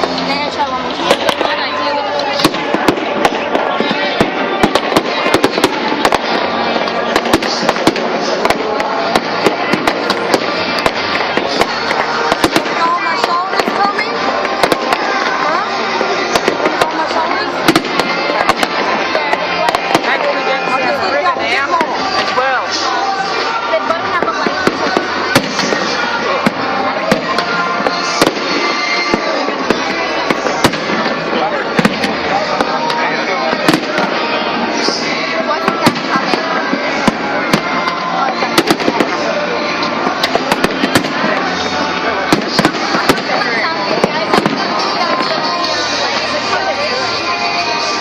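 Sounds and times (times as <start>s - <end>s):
fireworks bangs and crackles: 0.0s - 48.0s
music playing: 0.0s - 48.0s.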